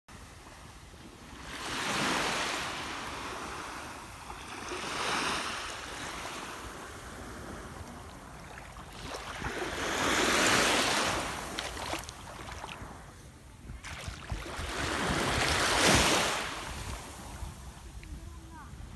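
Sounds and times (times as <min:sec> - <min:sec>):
small waves washing on sand: 0:00.1 - 0:18.9.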